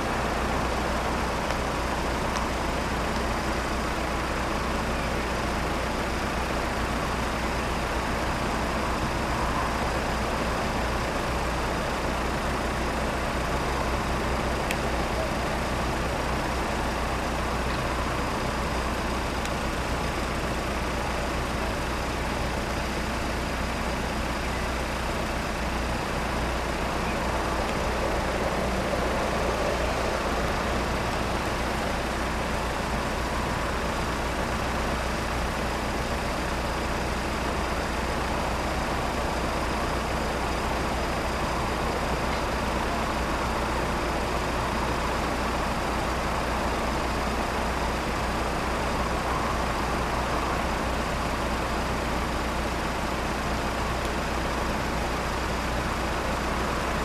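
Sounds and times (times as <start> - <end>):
idling road vehicles rumbling: 0.0 - 57.0.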